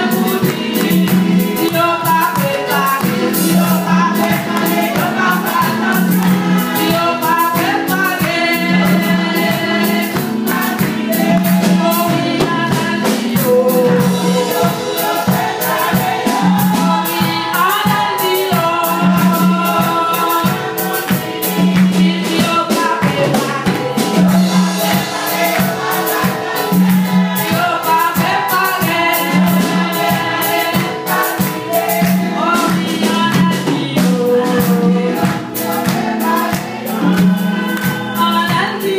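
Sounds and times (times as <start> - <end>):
people singing along: 0.0 - 38.9
woman singing into microphone: 0.0 - 38.9.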